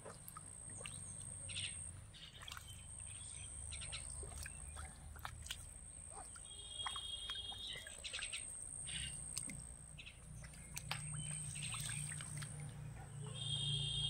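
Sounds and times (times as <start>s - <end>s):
birds chirping: 0.6s - 14.0s.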